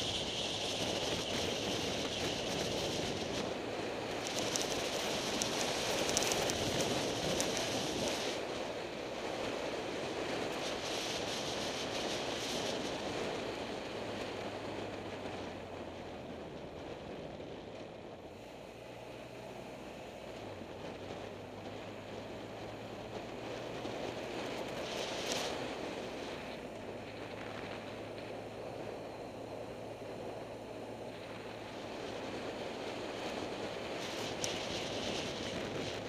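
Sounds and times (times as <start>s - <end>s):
low engine hum: 0.0s - 36.0s
wind rushing over microphone: 0.0s - 36.0s.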